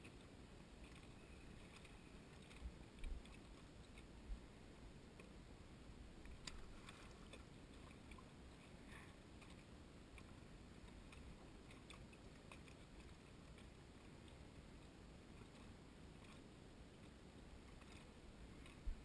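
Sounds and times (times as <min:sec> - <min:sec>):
faint low rumble: 0:00.0 - 0:19.0.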